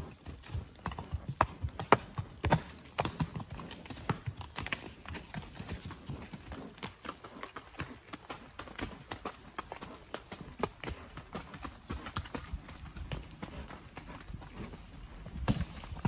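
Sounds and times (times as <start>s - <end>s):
horse hoofbeats on dirt trail: 0.0s - 16.0s.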